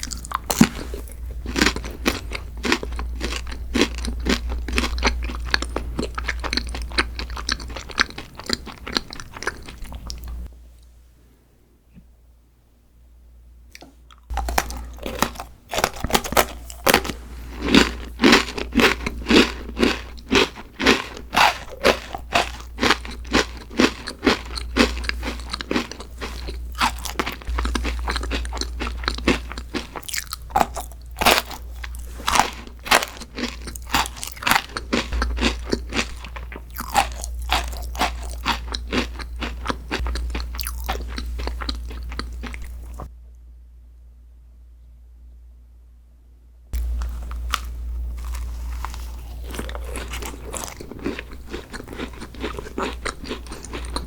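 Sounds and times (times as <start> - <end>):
crunchy chewing: 0.0 - 10.5, 13.7 - 43.1, 46.8 - 54.0.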